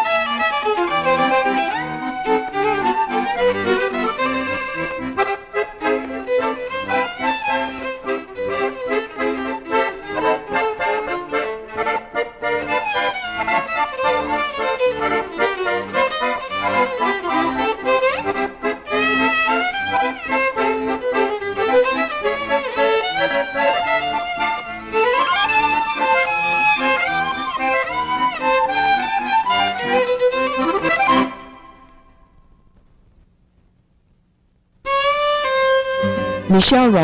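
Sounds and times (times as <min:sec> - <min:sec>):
accordion music: 0:00.0 - 0:32.3, 0:34.9 - 0:37.0.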